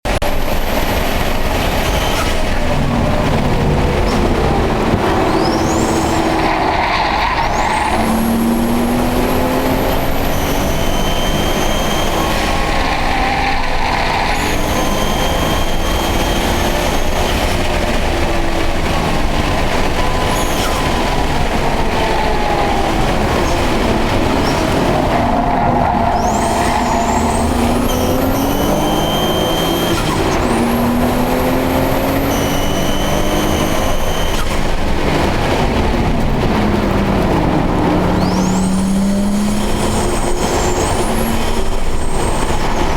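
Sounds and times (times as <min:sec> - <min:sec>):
car engine revving hard: 0:00.1 - 0:42.9
high-pitched whine: 0:00.2 - 0:42.9.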